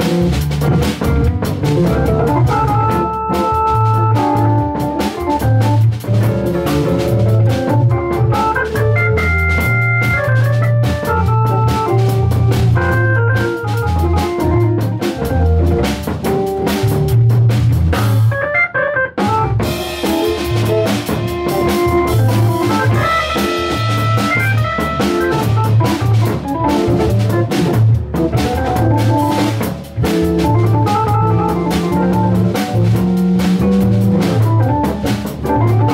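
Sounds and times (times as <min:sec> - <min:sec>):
drum kit: 0:00.0 - 0:35.9
electric guitar: 0:00.0 - 0:35.9
hammond organ: 0:00.0 - 0:35.9.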